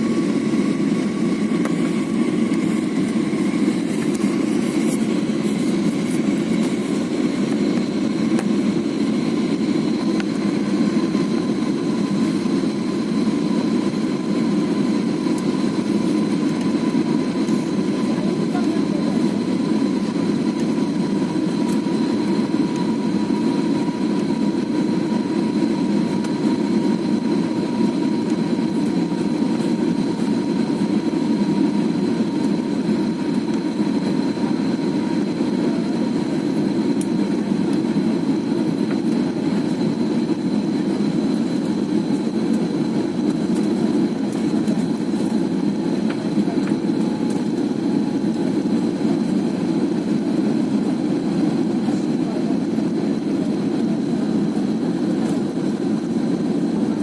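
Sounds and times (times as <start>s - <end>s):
aeroplane cabin engine and air noise: 0.0s - 57.0s.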